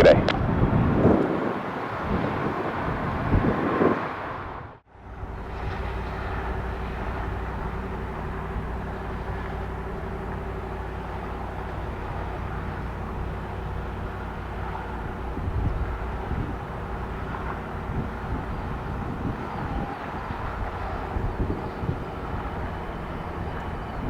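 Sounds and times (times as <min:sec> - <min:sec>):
jet engines droning: 0:00.0 - 0:24.0.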